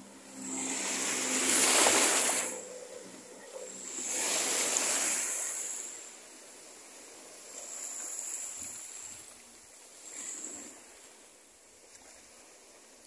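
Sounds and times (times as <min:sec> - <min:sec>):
small waves washing in: 0:00.0 - 0:13.0.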